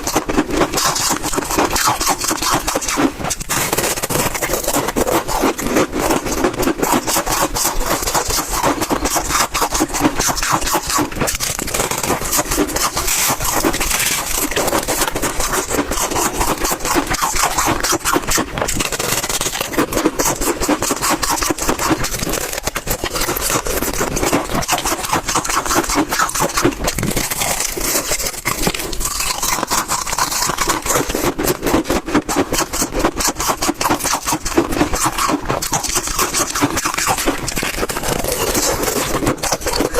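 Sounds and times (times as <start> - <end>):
crunching of frost being chewed: 0.0 - 39.9.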